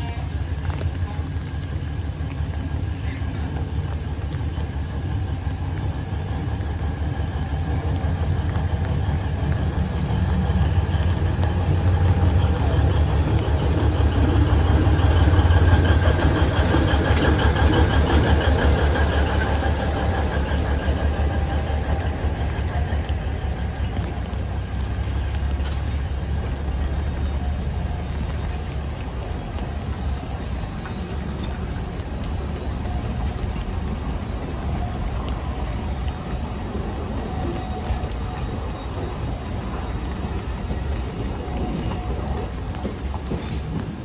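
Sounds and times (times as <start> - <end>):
carriages rolling on rails: 0.0 - 44.0
diesel locomotive engine hum: 0.0 - 44.0.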